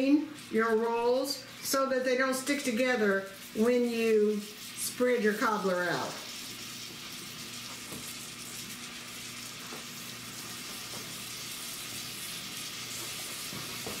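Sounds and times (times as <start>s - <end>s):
fruit sizzling in saucepan: 0.0s - 14.0s.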